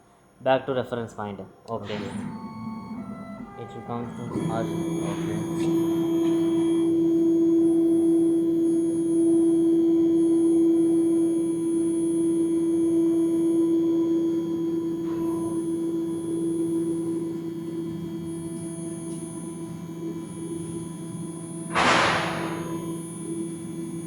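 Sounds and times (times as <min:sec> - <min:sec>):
cnc motors whining: 0:01.8 - 0:24.0.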